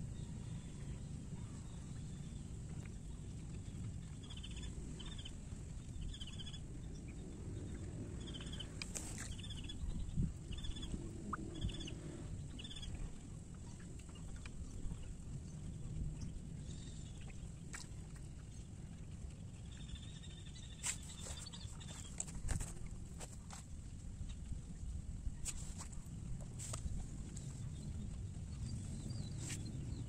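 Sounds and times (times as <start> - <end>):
low background rumble: 0.0 - 30.0.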